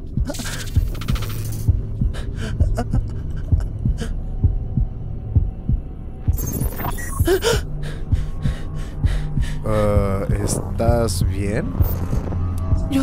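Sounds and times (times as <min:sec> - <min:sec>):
heartbeat thudding: 0:00.0 - 0:13.0
low steady drone: 0:00.0 - 0:13.0.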